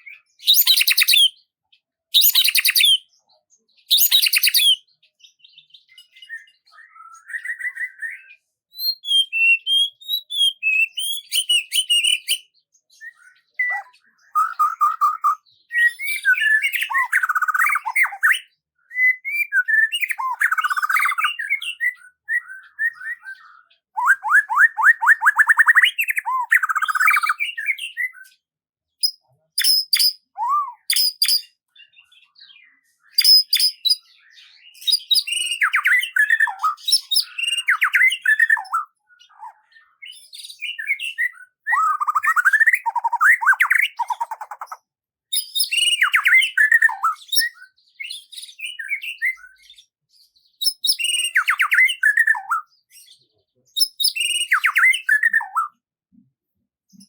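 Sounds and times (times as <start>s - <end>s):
songbird chirps and trills: 0.0s - 56.3s.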